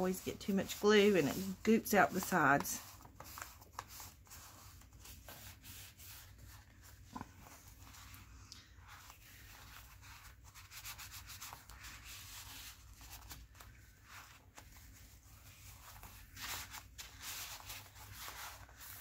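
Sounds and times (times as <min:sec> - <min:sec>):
paper rubbing on paper: 0:00.0 - 0:19.0.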